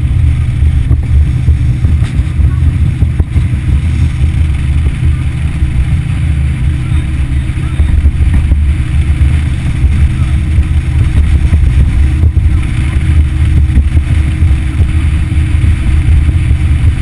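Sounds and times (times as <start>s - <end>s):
outboard motor droning: 0.0s - 17.0s.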